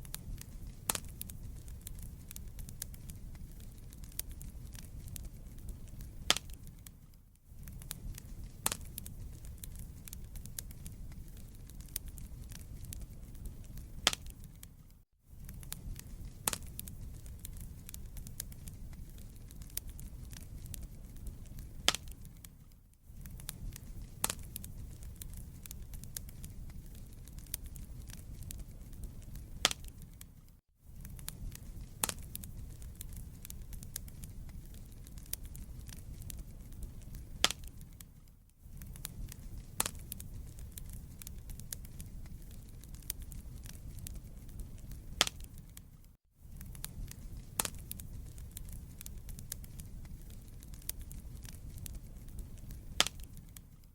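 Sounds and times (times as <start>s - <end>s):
fire crackling in fireplace: 0.0s - 53.9s.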